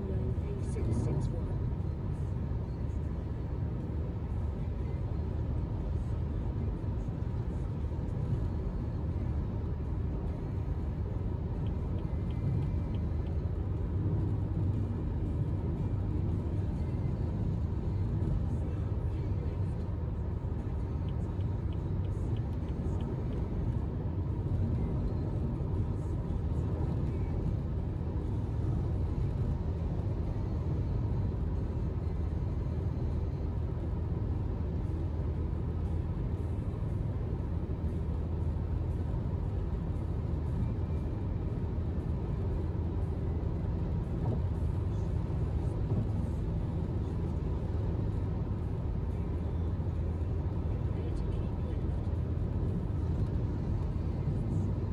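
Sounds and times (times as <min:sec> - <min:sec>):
road rumble inside car: 0:00.0 - 0:54.9.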